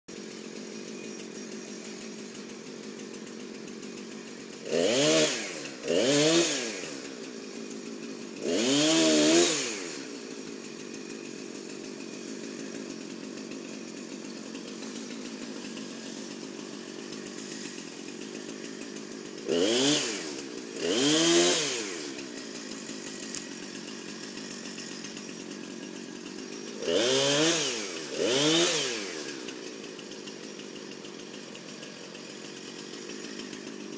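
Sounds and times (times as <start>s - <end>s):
chainsaw idling: 0.1s - 33.9s
chainsaw revving: 0.1s - 33.9s.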